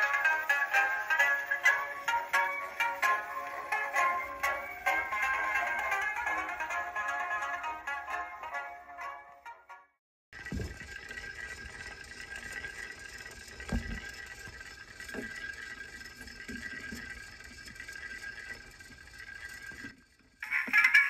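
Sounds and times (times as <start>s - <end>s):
phonograph mechanism whirring: 0.0s - 7.6s, 10.4s - 21.0s.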